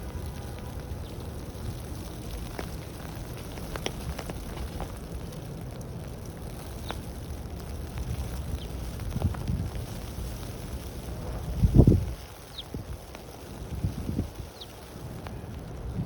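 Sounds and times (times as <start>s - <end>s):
light irregular ticks: 0.0s - 16.0s
wind rumbling: 0.0s - 16.0s.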